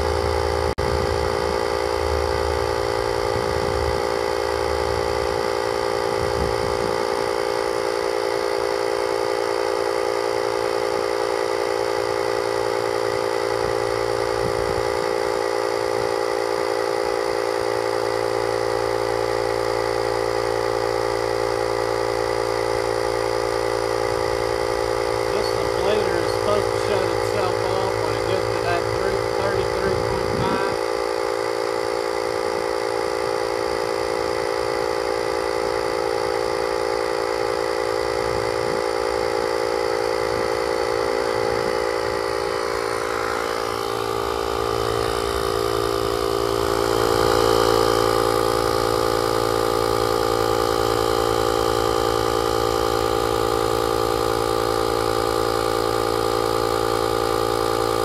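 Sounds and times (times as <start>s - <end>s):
air compressor motor humming: 0.0s - 58.0s.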